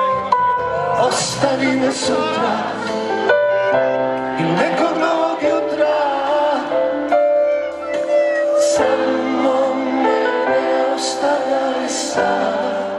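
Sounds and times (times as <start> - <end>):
live pop music: 0.0 - 12.9
person singing: 0.0 - 12.9.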